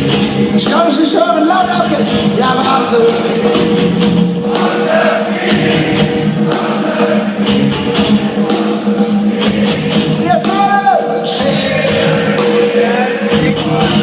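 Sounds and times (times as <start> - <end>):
live band playing party song: 0.0 - 14.0
steady drum beat: 0.0 - 14.0
voices singing along: 0.6 - 14.0.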